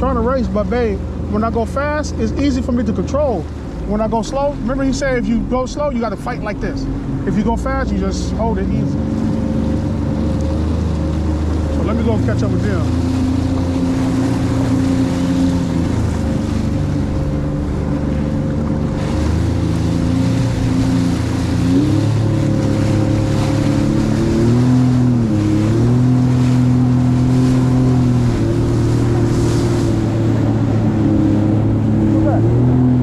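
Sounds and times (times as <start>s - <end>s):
jet ski engine running: 0.0s - 33.0s
rush of wind and water: 0.0s - 33.0s.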